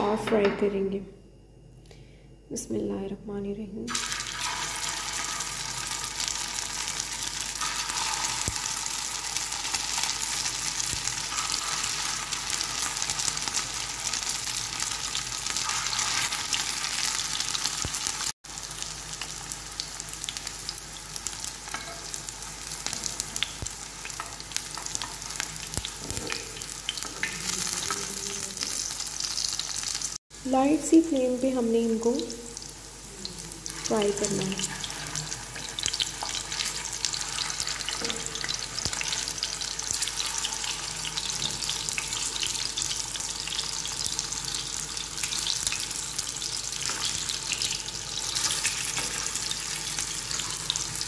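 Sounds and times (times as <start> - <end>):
patties sizzling in hot oil: 3.9 - 51.0.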